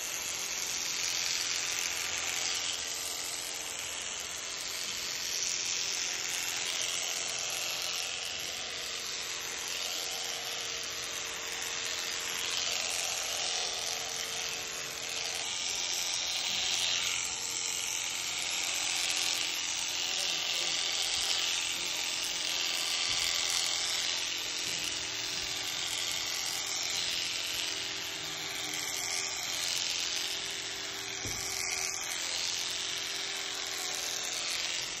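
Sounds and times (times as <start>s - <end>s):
electric shears buzzing: 0.0s - 35.0s.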